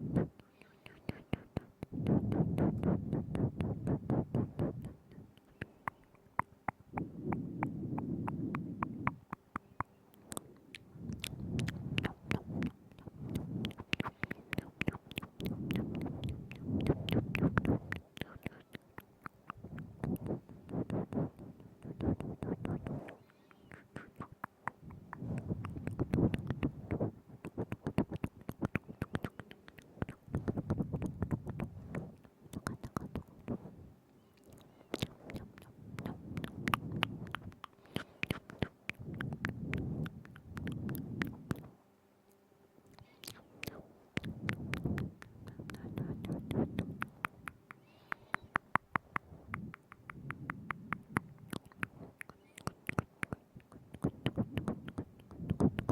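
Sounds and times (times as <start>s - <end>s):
wet tongue and lip clicks: 0.0s - 33.7s, 34.4s - 41.7s, 42.3s - 55.9s.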